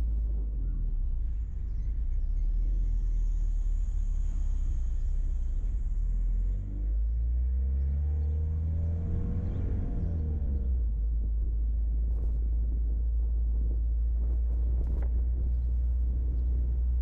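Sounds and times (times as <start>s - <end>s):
vehicle driving rumble: 0.0s - 17.0s.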